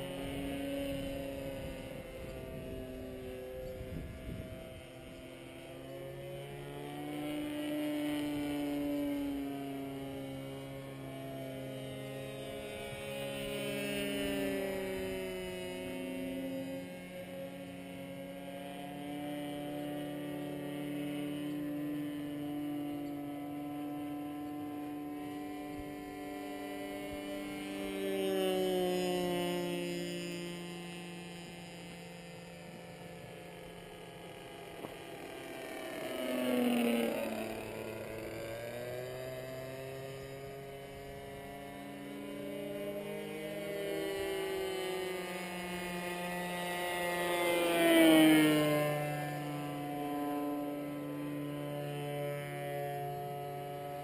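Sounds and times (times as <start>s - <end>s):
model airplane engine droning: 0.0s - 54.0s.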